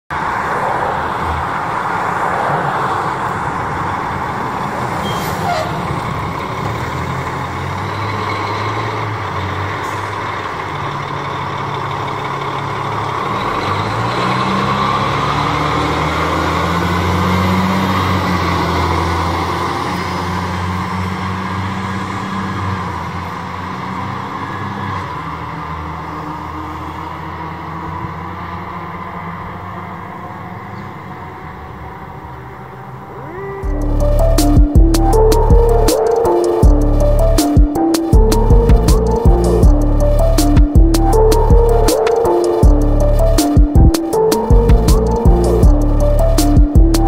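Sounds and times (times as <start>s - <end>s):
fire engine accelerating: 0.1s - 47.0s.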